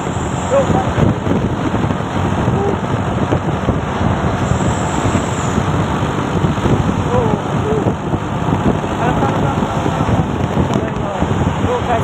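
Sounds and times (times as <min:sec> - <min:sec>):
road noise: 0:00.0 - 0:12.0
truck engine running: 0:00.0 - 0:12.0.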